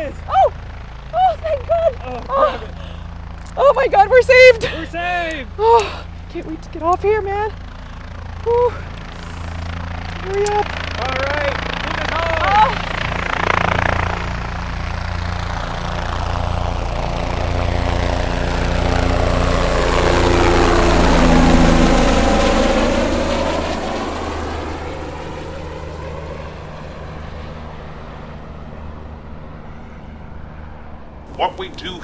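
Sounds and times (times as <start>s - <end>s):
helicopter flying past: 0.0s - 32.0s.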